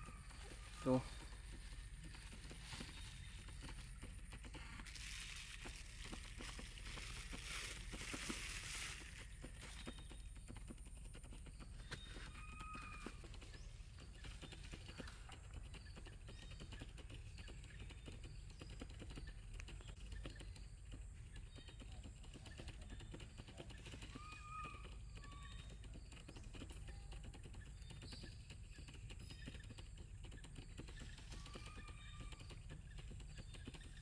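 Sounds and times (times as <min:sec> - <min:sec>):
light scattered ticks: 0:00.0 - 0:34.0.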